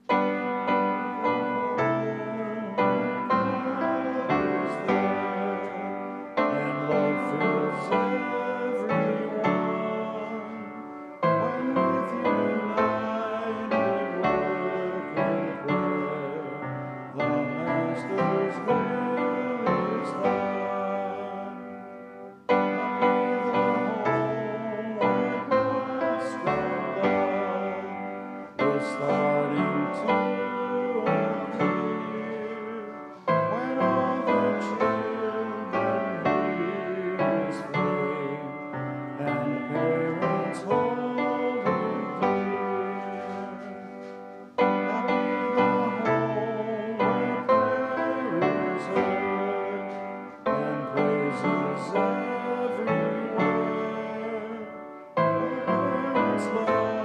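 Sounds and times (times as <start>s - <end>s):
congregation singing a hymn: 0.0s - 57.0s
piano accompaniment: 0.0s - 57.0s.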